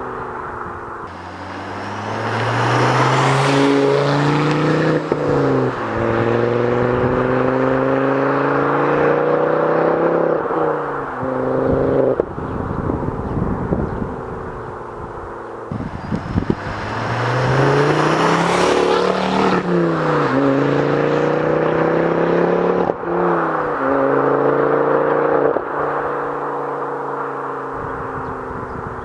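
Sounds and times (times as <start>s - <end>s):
car engine accelerating hard: 0.1s - 29.0s.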